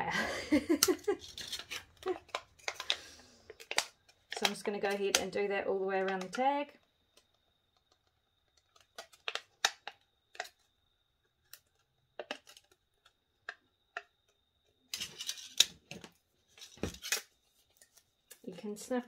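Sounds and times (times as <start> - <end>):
crackling handling noise: 0.7 - 19.0
aluminium sheet crinkling and clicking: 0.8 - 19.0.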